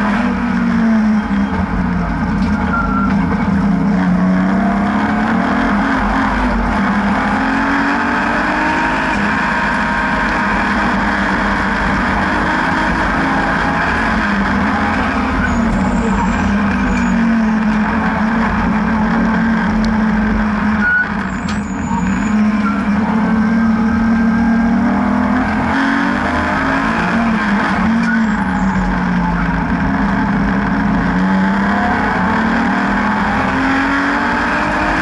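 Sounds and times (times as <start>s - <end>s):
car engine pulling hard: 0.0s - 35.0s
road and wind rumble: 0.0s - 35.0s.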